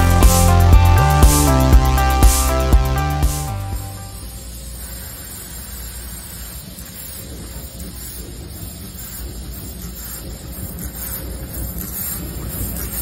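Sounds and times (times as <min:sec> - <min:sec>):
laser cutter humming and hissing: 0:00.0 - 0:13.0.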